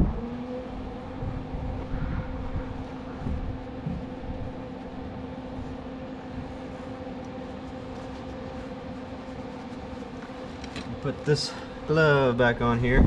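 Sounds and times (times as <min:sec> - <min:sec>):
welding machine humming: 0:00.0 - 0:13.0.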